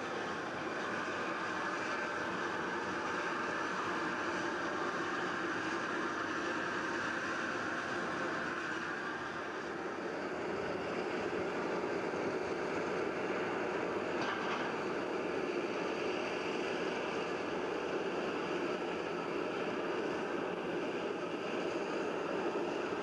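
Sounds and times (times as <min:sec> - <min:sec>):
hovercraft turbines and propellers: 0:00.0 - 0:23.0.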